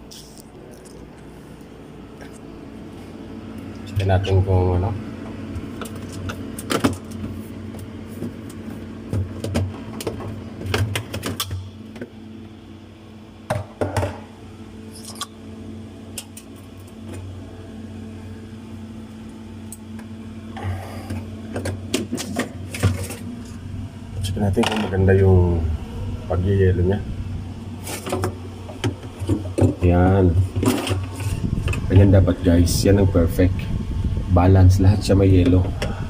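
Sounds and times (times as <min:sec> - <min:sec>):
refrigerator humming: 0:00.0 - 0:36.0.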